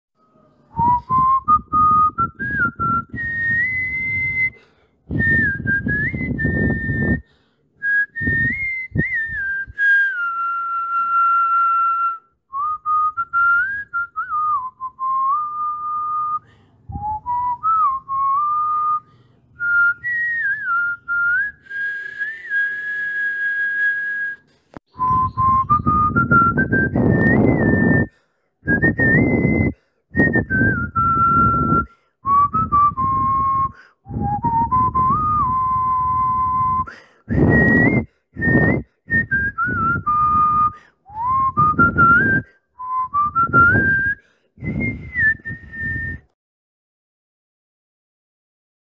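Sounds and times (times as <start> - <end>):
person whistling a tune: 0.7 - 46.4.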